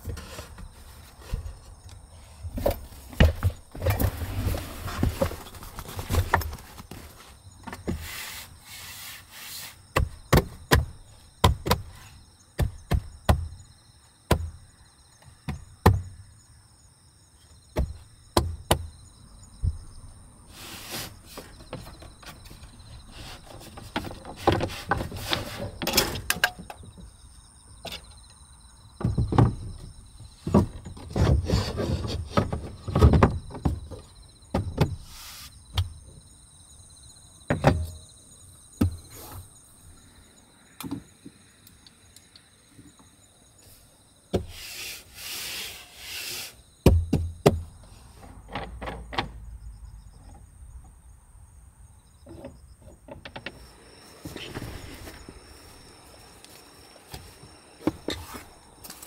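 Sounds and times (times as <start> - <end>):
insect chirping: 0.0 - 59.0.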